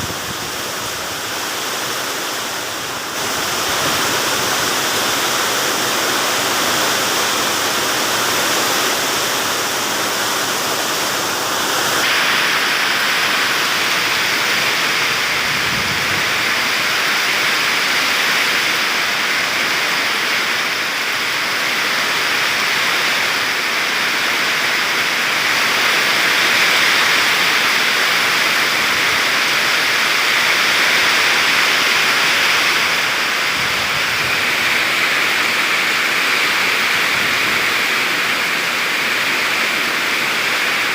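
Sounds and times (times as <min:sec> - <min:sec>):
heavy rain pouring: 0:00.0 - 0:40.9
strong wind: 0:00.0 - 0:40.9.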